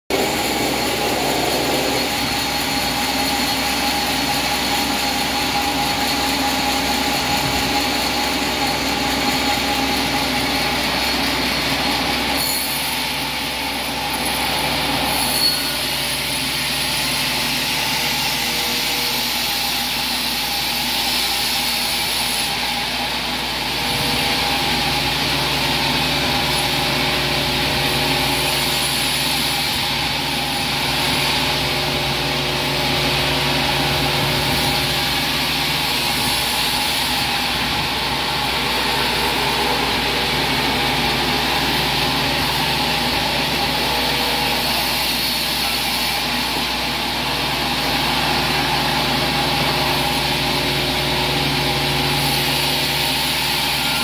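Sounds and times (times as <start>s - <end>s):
band sawmill droning: 0.0s - 54.0s.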